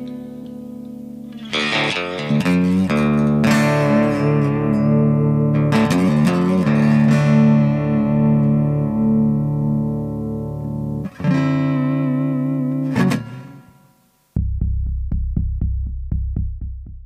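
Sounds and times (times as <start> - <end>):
guitar strumming chords: 0.0 - 16.4.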